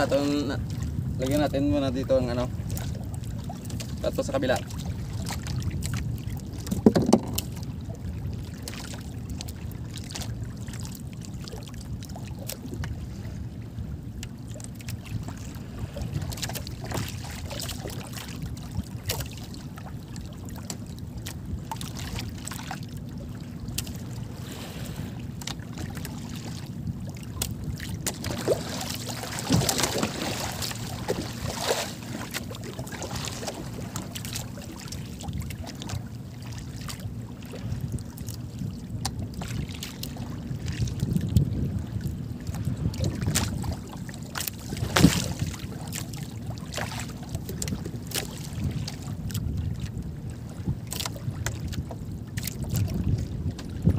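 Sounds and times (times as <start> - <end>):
water lapping against boat hull: 0.0 - 53.9
knocks and clicks on boat: 2.2 - 13.0, 14.0 - 24.3, 25.2 - 50.0, 50.6 - 53.9.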